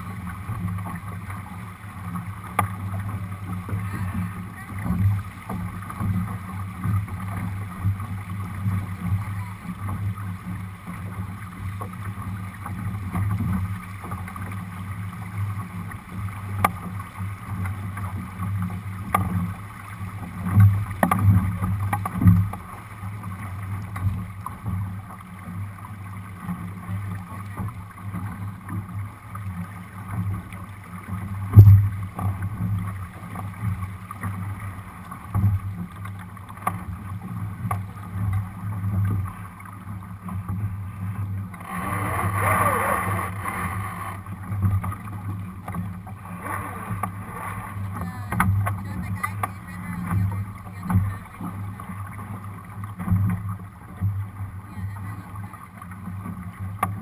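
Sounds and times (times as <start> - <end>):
water rushing along hull: 0.0 - 57.0.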